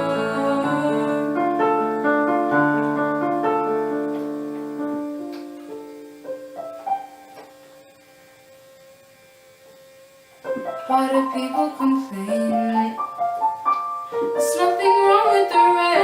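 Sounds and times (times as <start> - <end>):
piano chords and notes: 0.0 - 8.4, 10.3 - 16.0.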